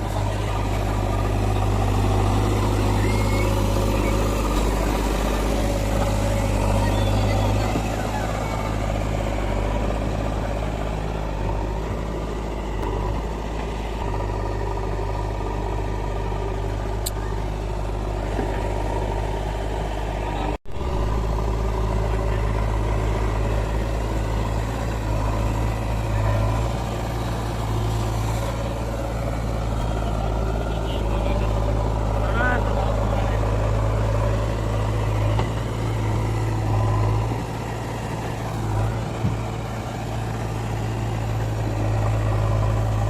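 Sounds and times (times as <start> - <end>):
diesel engine humming: 0.0 - 43.0.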